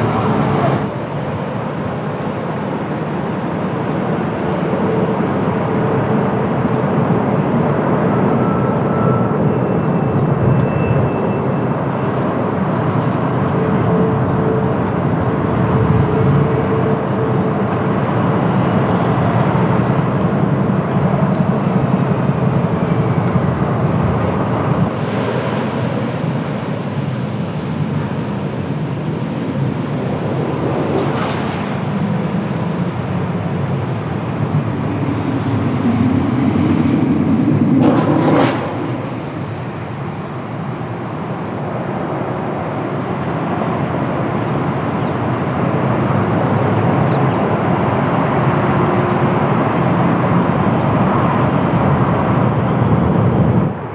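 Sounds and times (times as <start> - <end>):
jet engines rumbling: 0.0 - 0.9, 2.1 - 25.2, 32.4 - 53.9
wind noise on microphone: 0.0 - 0.9, 2.8 - 25.1, 32.8 - 53.9.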